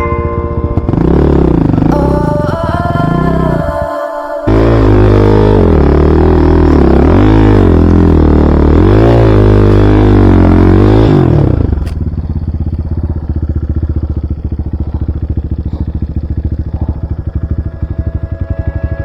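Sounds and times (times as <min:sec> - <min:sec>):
motorcycle engine idling: 0:00.0 - 0:03.8, 0:04.5 - 0:19.0
droning music tone: 0:00.0 - 0:19.0.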